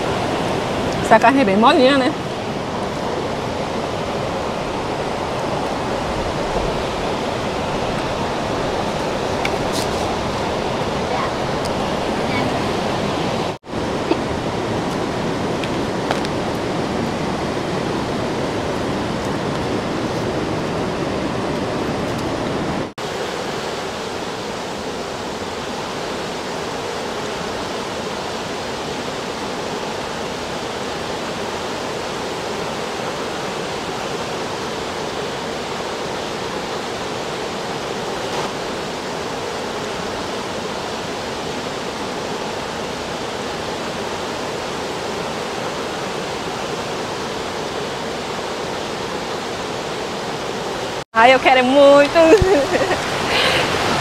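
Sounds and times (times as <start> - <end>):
waterfall and rapids rushing: 0.0 - 54.0.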